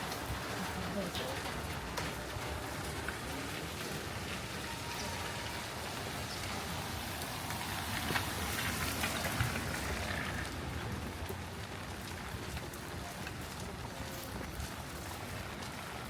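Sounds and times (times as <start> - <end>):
raindrops clicking on surfaces: 0.0 - 16.0
steady rain hiss: 0.0 - 16.0.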